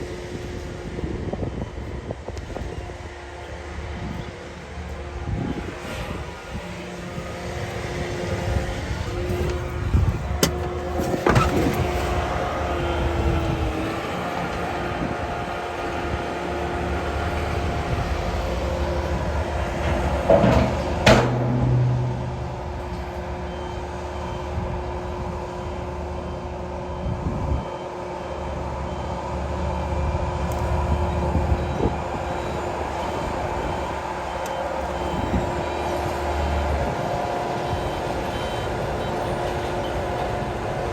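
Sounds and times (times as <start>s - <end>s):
heavy earthmoving machinery running: 0.0s - 40.9s
reversing alarm beeping: 6.3s - 40.9s.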